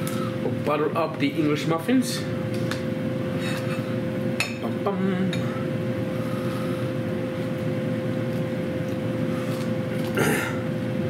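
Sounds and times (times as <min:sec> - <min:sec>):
air fryer fan hum: 0:00.0 - 0:11.0.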